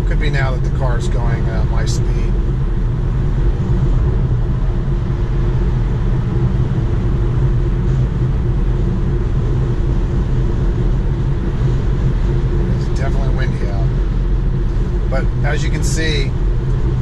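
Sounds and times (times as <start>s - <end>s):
wind rushing: 1.5s - 17.0s.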